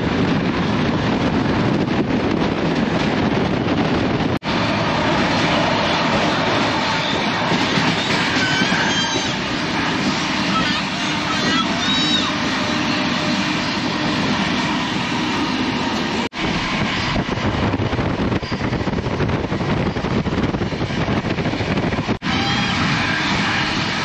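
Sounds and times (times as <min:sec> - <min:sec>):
train rushing at speed: 0:00.0 - 0:24.0.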